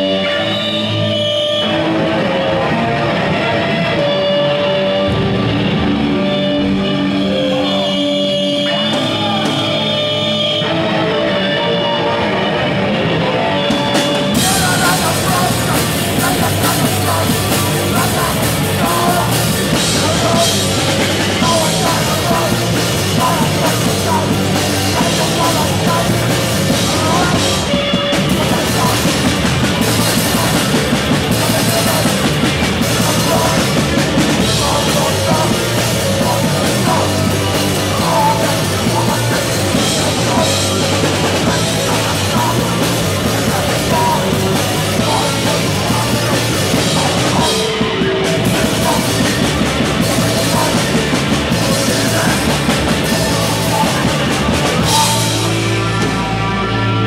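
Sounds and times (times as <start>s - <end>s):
live rock band: 0.0s - 57.0s
drum kit: 4.9s - 10.8s, 13.6s - 57.0s.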